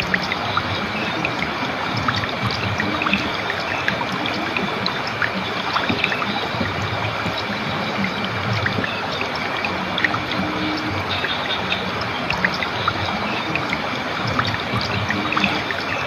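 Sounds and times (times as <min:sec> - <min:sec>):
small splashing plinks: 0:00.0 - 0:16.0
stream flowing over stones: 0:00.0 - 0:16.0.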